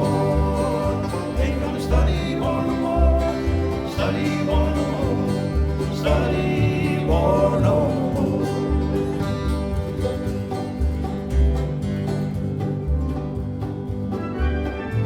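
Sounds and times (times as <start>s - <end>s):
guitar notes: 0.0s - 15.0s
picked banjo: 0.0s - 15.0s
pulsing bass line: 0.0s - 15.0s.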